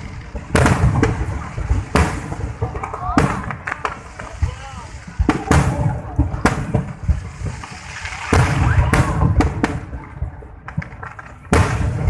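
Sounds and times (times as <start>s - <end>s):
firework crackling: 0.0s - 12.0s
firework shells booming: 0.0s - 12.0s.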